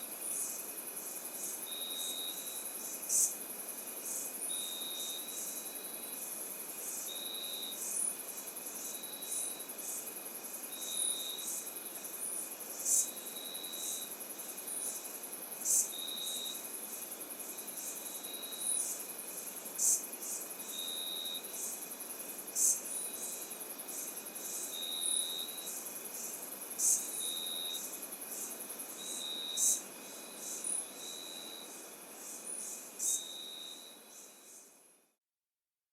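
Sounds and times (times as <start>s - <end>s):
crickets trilling: 0.0s - 34.7s.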